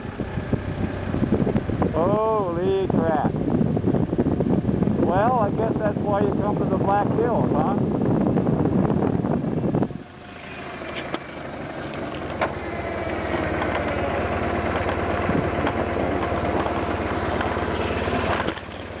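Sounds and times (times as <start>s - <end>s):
motorcycle engine throbbing: 0.0s - 19.0s
wind noise on microphone: 0.0s - 19.0s.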